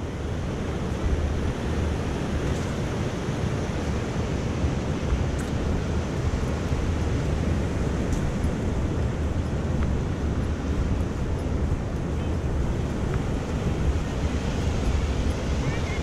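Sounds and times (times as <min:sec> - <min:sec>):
sea surf washing on beach: 0:00.0 - 0:16.0
wind buffeting microphone: 0:00.0 - 0:16.0.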